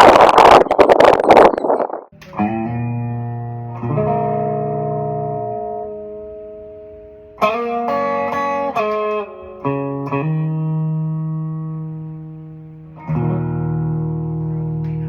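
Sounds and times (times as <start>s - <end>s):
guitar music: 2.1s - 15.0s.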